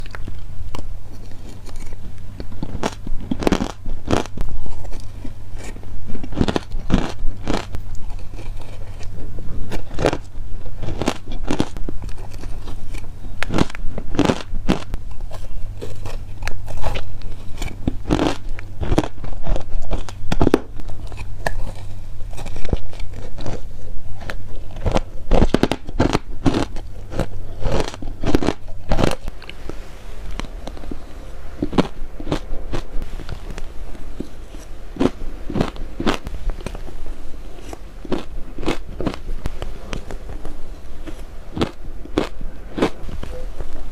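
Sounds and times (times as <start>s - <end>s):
ice crunching in mouth: 0.0s - 31.0s, 37.5s - 43.4s
steady low hum: 0.0s - 43.9s.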